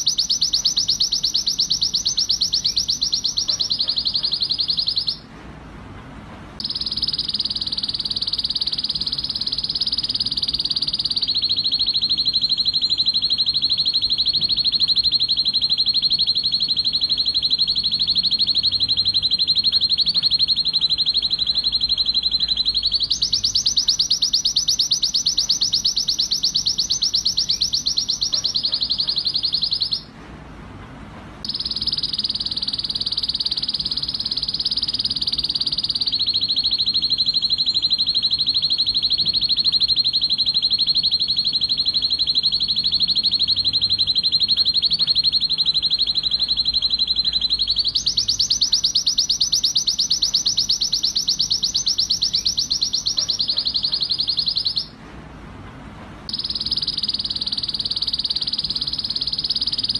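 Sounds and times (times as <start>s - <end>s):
canary singing rapid trills: 0.0s - 5.3s, 6.6s - 30.1s, 31.4s - 55.0s, 56.3s - 59.9s.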